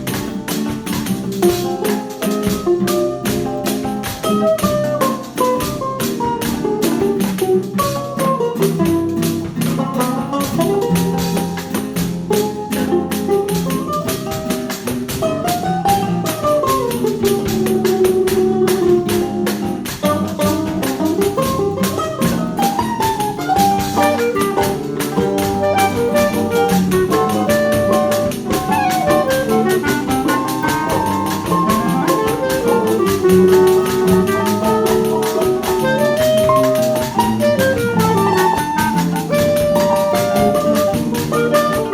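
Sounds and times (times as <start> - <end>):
instrumental ensemble melody: 0.0 - 41.9
rhythmic accompaniment: 0.0 - 41.9.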